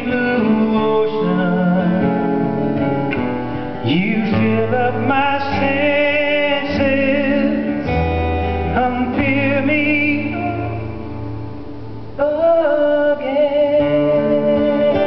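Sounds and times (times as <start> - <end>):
acoustic guitar: 0.0 - 15.0
keyboard accompaniment: 0.0 - 15.0.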